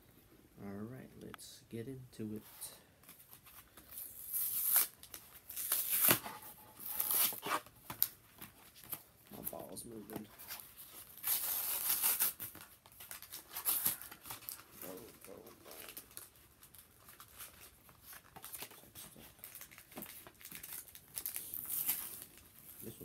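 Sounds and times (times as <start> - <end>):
packaging crinkling and tearing: 3.1 - 23.0.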